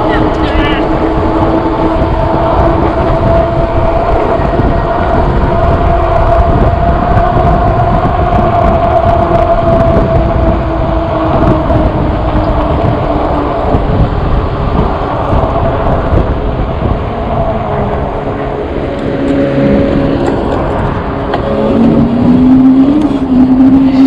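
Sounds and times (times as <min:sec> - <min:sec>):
humming motor tone: 0:00.0 - 0:24.0
road rumble: 0:00.0 - 0:24.0
wind buffeting microphone: 0:00.0 - 0:24.0.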